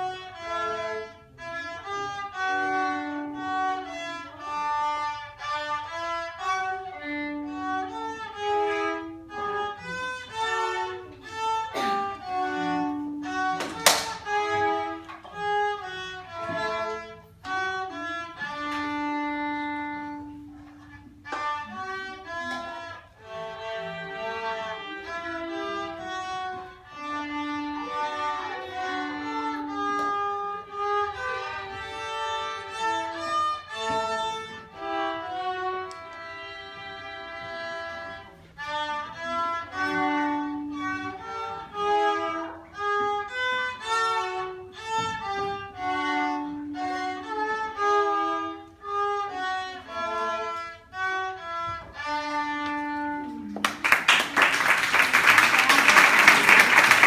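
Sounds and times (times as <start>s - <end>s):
child playing solo violin: 0.0s - 54.5s.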